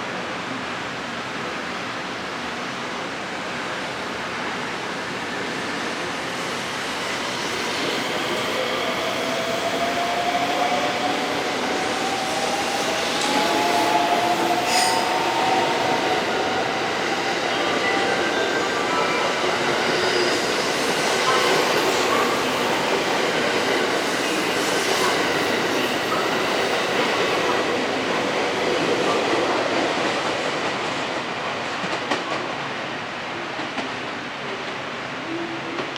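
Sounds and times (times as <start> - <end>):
train wheels rumbling on rails: 3.9 - 35.0.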